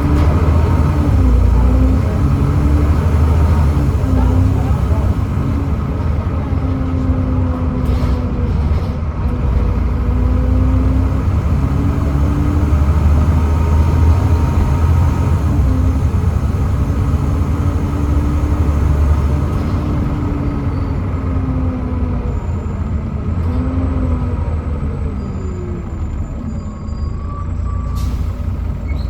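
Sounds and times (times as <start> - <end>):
bus diesel engine rumble: 0.0 - 29.0.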